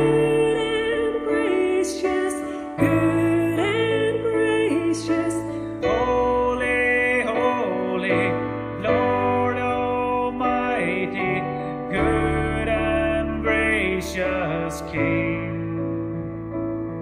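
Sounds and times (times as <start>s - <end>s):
soft instrumental accompaniment: 0.0s - 17.0s.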